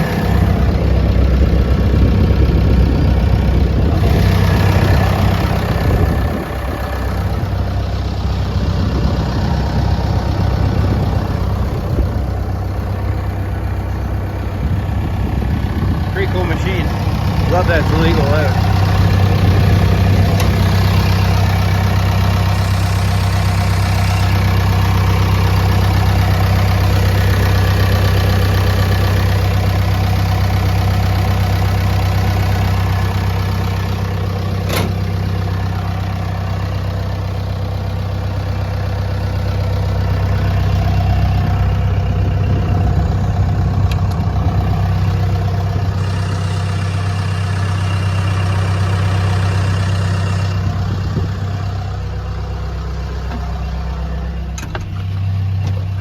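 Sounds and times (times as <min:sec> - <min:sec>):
dozer diesel engine idling: 0:00.0 - 0:56.0.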